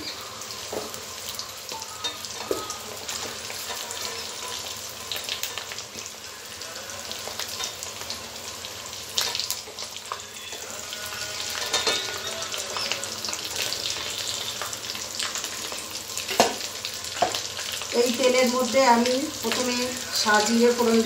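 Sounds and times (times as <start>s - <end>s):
hot oil sizzling: 0.0s - 21.0s.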